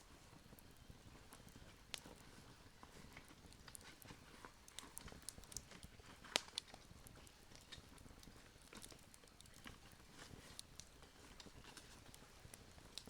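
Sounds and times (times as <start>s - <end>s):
campfire crackling and popping: 0.4s - 13.0s.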